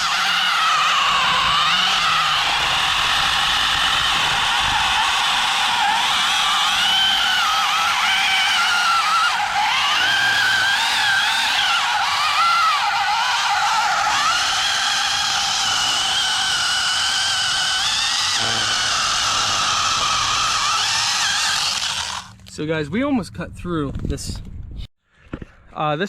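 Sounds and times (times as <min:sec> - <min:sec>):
chainsaw cutting wood: 0:00.0 - 0:22.4.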